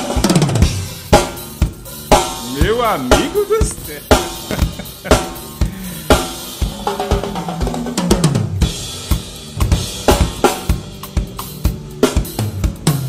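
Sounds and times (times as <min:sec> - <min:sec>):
tom drum fill: 0:00.0 - 0:11.4
bass drum: 0:00.0 - 0:13.0
snare and hi-hat: 0:00.0 - 0:13.0.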